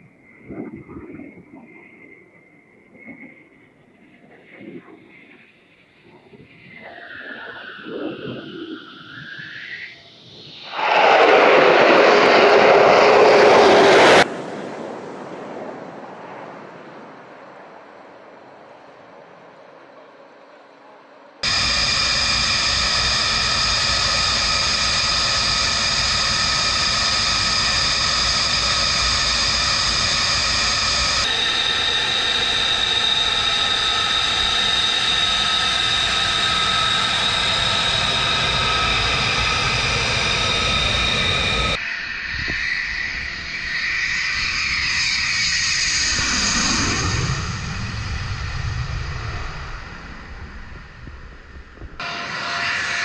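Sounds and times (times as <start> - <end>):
jet passing by: 0.0 - 20.0, 21.4 - 53.0
jet engine high whine: 0.0 - 53.0.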